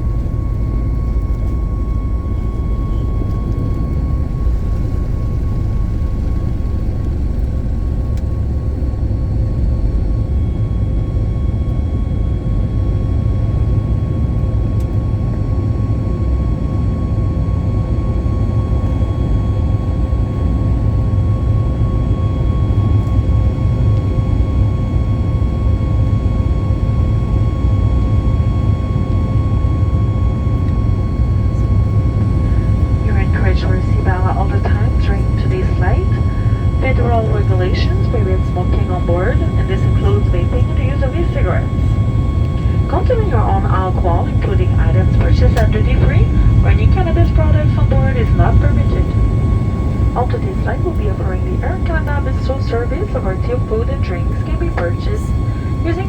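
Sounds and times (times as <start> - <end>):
engine whine: 0.0 - 56.0
jet engine and airflow roar: 0.0 - 56.0.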